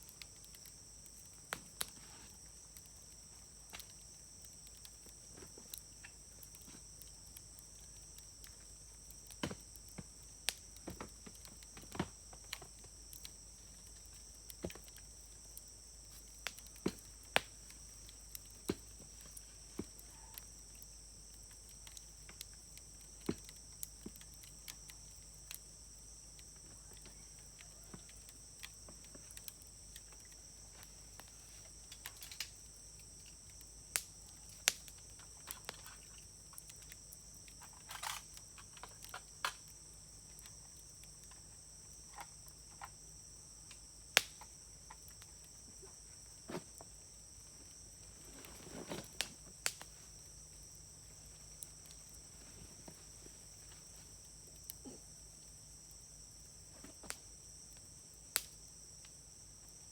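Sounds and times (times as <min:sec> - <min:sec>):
insects trilling: 0:00.0 - 0:59.9
wood fire crackling: 0:00.0 - 0:59.9.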